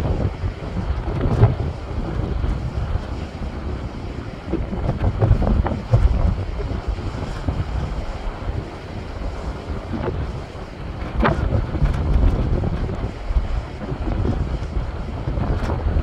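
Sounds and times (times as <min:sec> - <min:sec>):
sea waves breaking on rocks: 0:00.0 - 0:16.0
wind buffeting microphone: 0:00.0 - 0:16.0.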